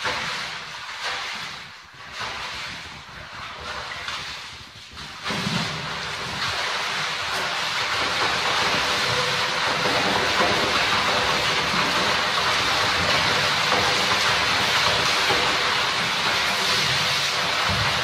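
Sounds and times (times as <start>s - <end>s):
water splashing in pool: 0.0s - 18.0s.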